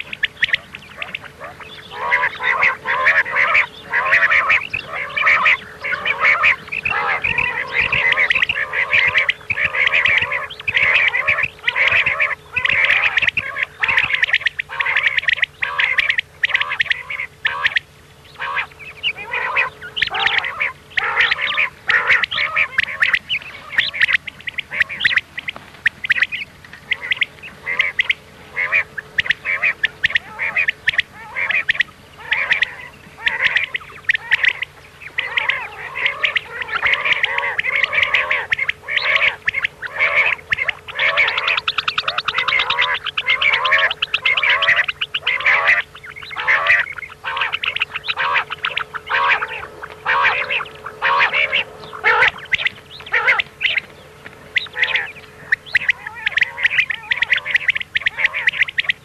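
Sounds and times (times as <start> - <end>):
faint steady hum: 0.0 - 59.0
quail calls chorus: 0.0 - 59.0.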